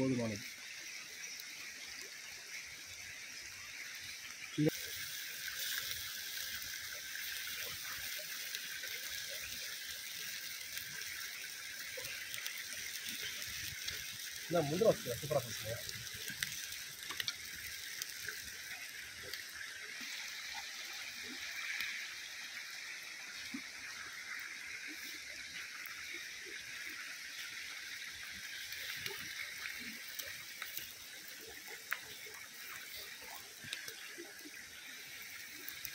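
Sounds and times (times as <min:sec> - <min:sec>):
stream water running: 0:00.0 - 0:35.9
wood fire crackling: 0:00.0 - 0:35.9.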